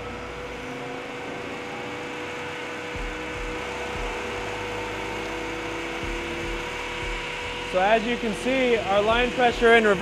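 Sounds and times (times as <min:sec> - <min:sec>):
transmission dyno mechanical hum: 0:00.0 - 0:10.0.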